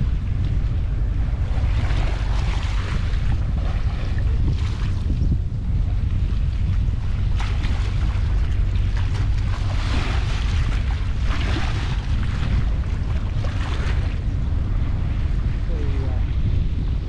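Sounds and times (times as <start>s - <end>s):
river water lapping and splashing: 0.0s - 16.3s
wind buffeting microphone: 0.0s - 17.0s.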